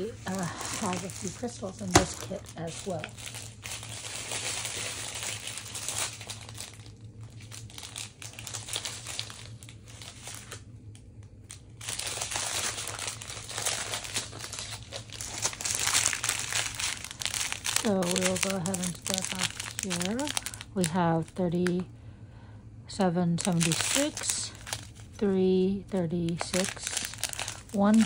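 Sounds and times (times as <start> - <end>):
plastic bags crinkling: 0.0 - 21.8, 23.4 - 25.2, 26.2 - 28.0.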